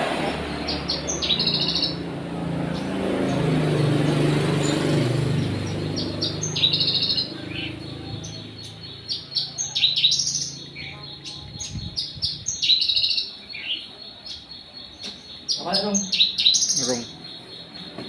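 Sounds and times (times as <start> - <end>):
small bird chirping: 0.5 - 3.6, 4.6 - 18.0.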